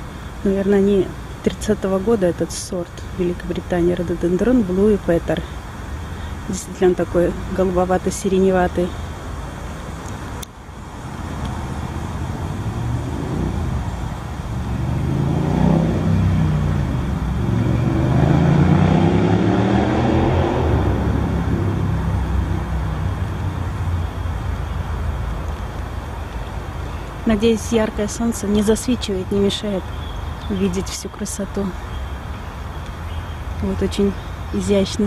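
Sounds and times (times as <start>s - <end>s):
traffic rumble: 0.0s - 35.0s
vehicle passing: 0.0s - 35.0s.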